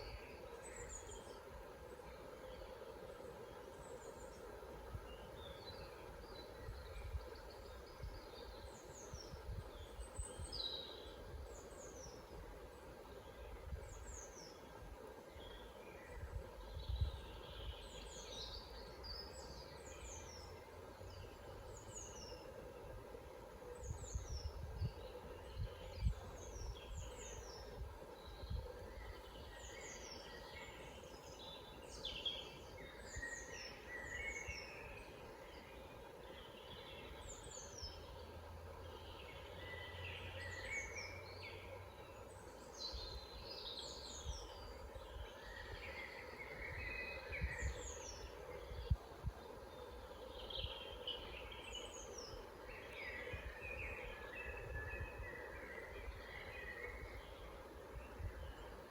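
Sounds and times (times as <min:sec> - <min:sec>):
birds singing: 0:00.0 - 0:58.9.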